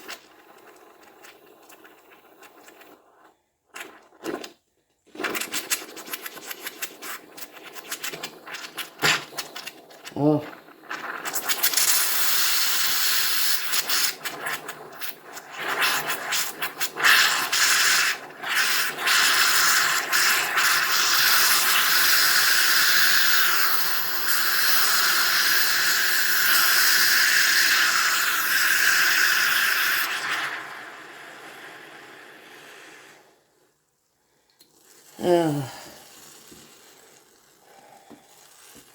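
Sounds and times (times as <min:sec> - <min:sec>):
bottle hissing and spraying: 0:05.1 - 0:33.6, 0:34.6 - 0:38.9.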